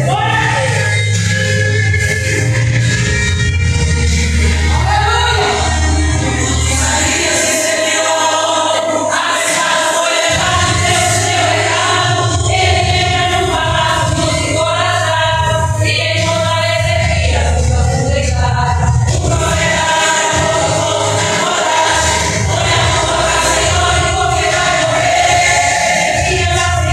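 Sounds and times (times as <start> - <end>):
bass line: 0.0 - 8.2, 10.3 - 26.9
choir singing a hymn: 4.4 - 26.9.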